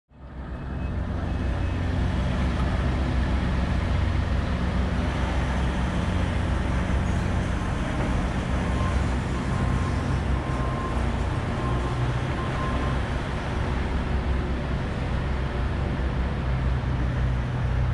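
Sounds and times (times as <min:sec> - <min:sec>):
city street noise: 0:00.1 - 0:17.9.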